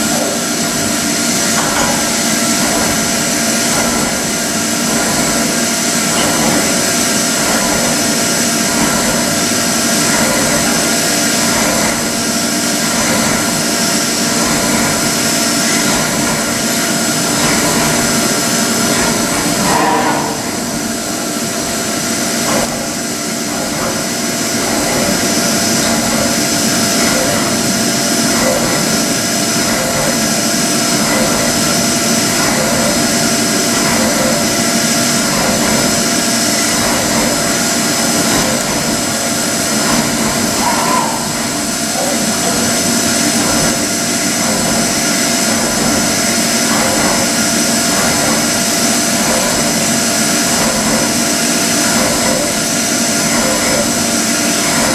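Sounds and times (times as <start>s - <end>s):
spindle whine and cutting noise: 0.0s - 54.9s.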